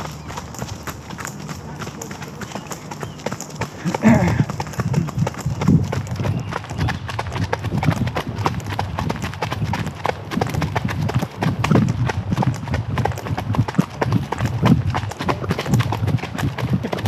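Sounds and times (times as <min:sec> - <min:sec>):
horses trotting on a trail: 0:00.0 - 0:17.0.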